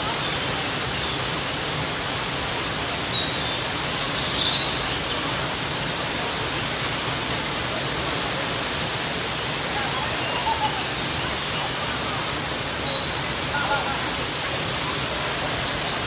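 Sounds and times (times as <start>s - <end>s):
waterfall crashing: 0.0s - 16.0s.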